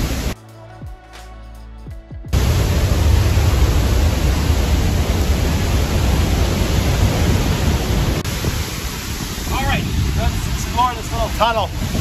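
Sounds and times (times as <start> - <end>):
waterfall roaring: 0.0 - 0.4, 2.4 - 12.0.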